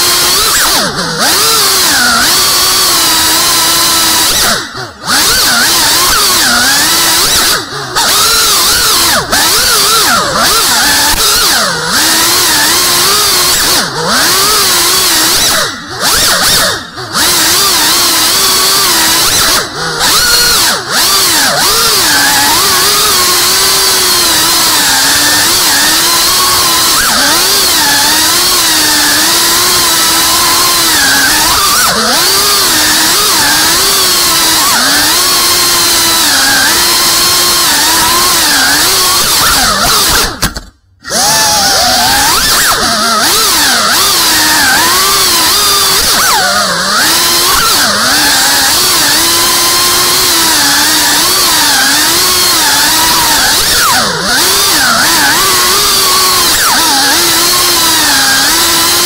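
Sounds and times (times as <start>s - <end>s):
drone motors buzzing whine: 0.0s - 59.0s.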